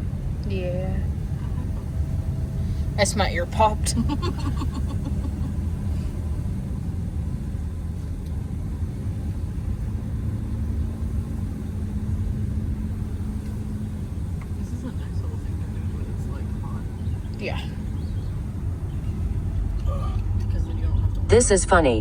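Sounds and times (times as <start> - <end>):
car engine and tyres rumbling: 0.0 - 22.0
faint steady hum: 0.0 - 22.0.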